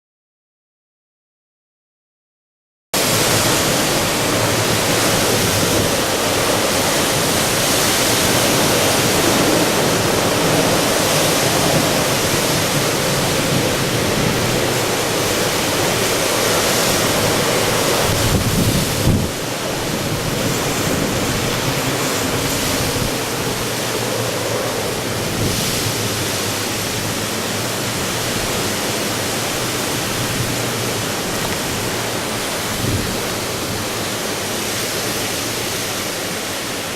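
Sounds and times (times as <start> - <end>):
strong winds blowing: 3.0 - 36.9.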